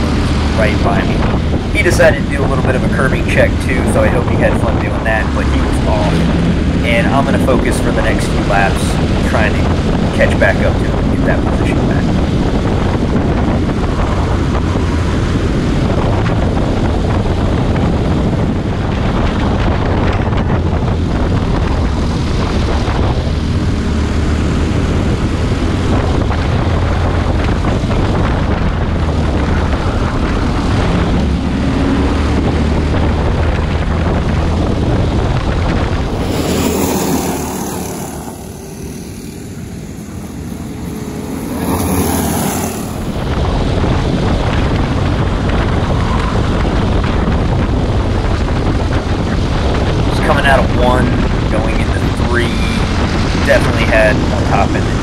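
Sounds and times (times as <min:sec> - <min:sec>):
kart engine racing: 0:00.0 - 0:55.0
karts running on circuit: 0:00.0 - 0:55.0
wind on microphone: 0:00.0 - 0:55.0.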